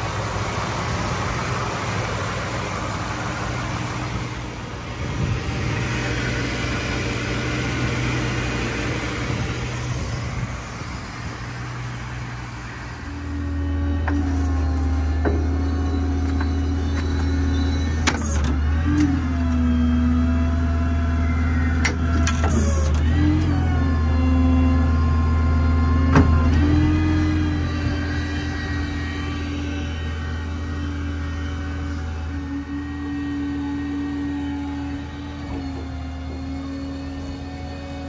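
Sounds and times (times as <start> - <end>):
hydraulic pump whining: 0.0 - 38.0
truck engine humming: 0.0 - 38.0.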